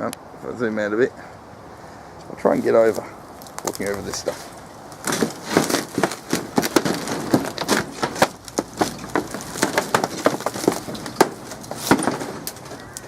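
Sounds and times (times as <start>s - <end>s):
footsteps crunching over dry debris: 2.4s - 13.0s.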